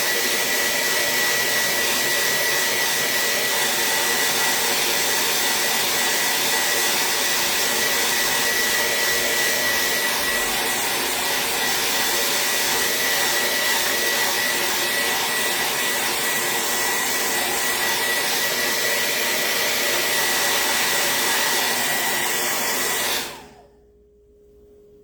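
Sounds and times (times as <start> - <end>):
heat gun blowing air: 0.0 - 23.6.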